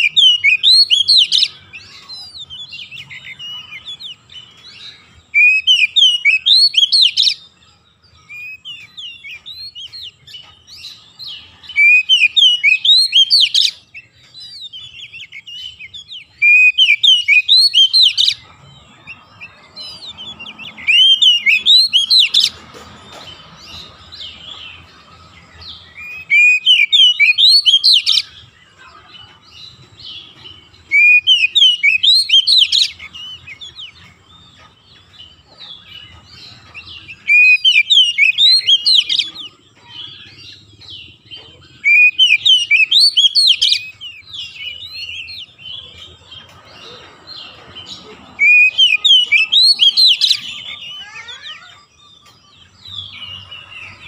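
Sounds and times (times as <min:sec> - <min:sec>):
bird singing: 0:00.0 - 0:54.0
soft bird chirping: 0:00.0 - 0:54.0.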